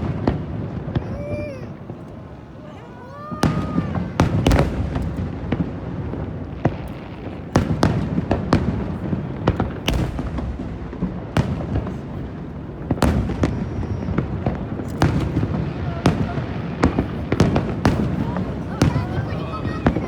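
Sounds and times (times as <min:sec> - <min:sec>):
fireworks cracking and booming: 0:00.0 - 0:20.0.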